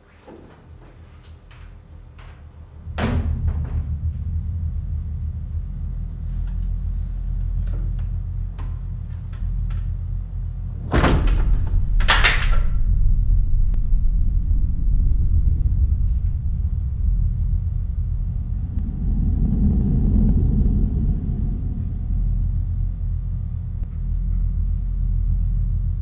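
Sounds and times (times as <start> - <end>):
low rumbling drone: 1.9 - 26.0.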